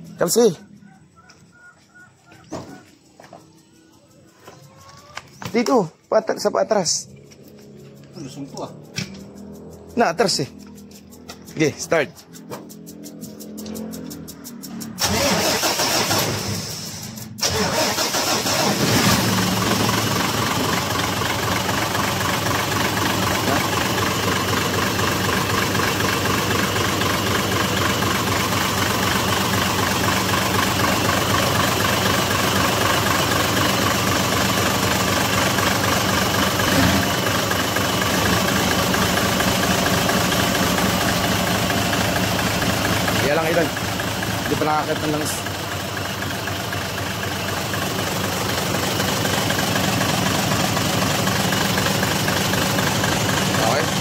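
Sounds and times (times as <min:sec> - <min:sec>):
diesel engine idling: 0:00.0 - 0:54.0
starter cranking engine: 0:04.7 - 0:54.0.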